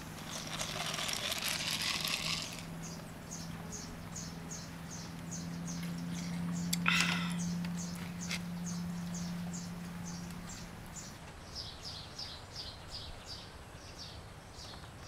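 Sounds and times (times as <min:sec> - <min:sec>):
steady low hum: 0:00.0 - 0:13.4
small bird chirping: 0:00.0 - 0:14.9.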